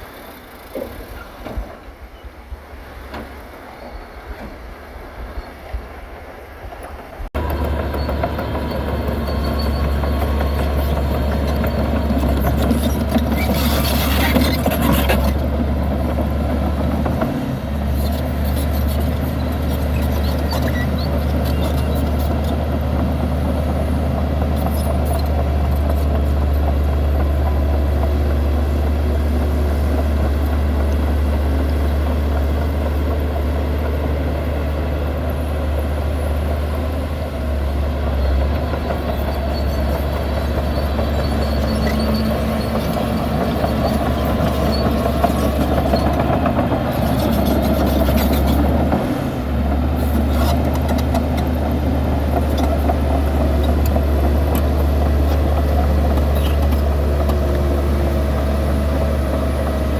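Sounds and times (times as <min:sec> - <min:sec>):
bulldozer diesel engine running: 0:07.2 - 0:59.9.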